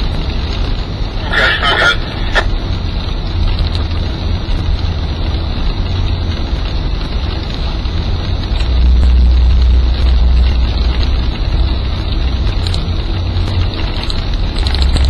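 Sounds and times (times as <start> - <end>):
engine and road noise in vehicle: 0.0 - 15.0.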